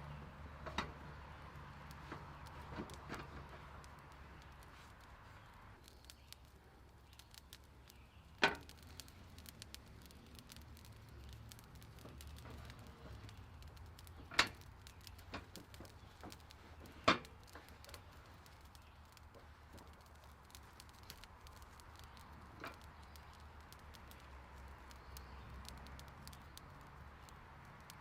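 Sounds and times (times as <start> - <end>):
faint ticks: 0.0 - 28.0
low steady hum: 0.0 - 28.0.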